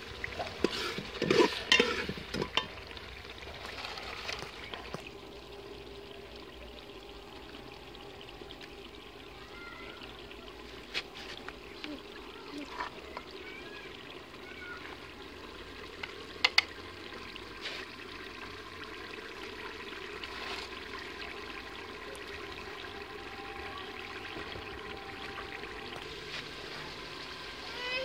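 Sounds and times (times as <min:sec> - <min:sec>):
curry bubbling in a pot: 0:00.0 - 0:28.0.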